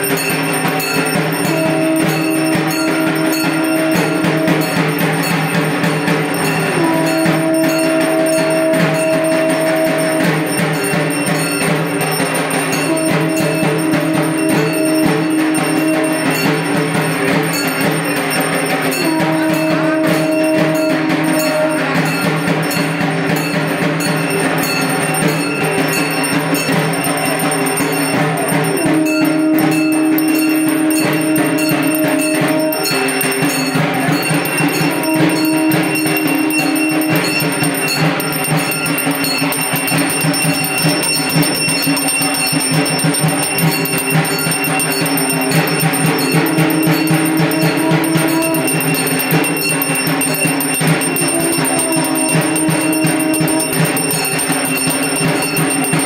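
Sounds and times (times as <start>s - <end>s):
bells ringing: 0.0s - 56.0s
fast percussion: 0.0s - 56.0s
held tone: 0.0s - 56.0s.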